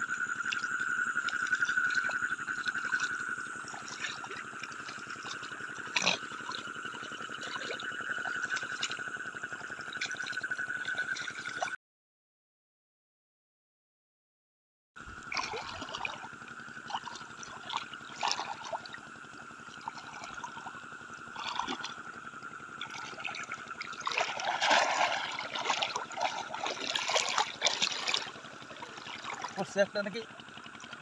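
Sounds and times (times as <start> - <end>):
shallow water splashing: 0.0 - 11.8, 15.1 - 31.0.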